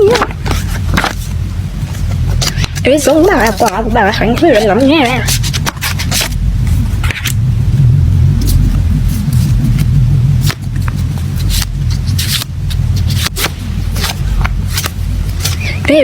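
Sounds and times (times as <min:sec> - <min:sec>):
packaging handling rumble: 0:00.0 - 0:07.4, 0:08.5 - 0:16.0.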